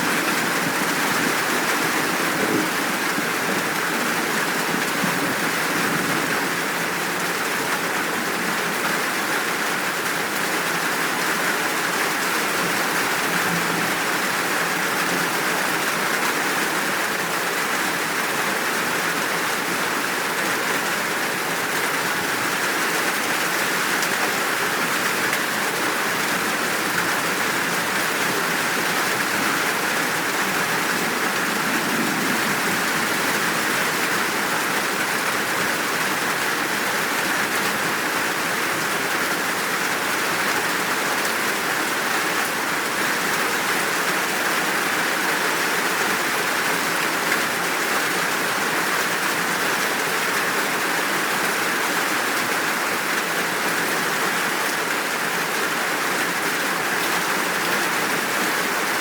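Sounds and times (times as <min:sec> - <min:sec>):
rain downpour hissing: 0:00.0 - 0:59.0.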